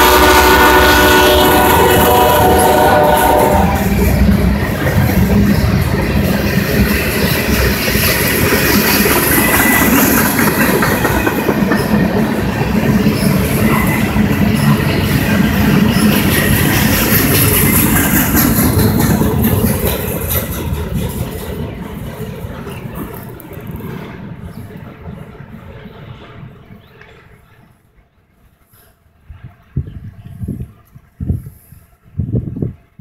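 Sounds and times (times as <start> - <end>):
freight train cars rolling past: 0.0 - 33.0.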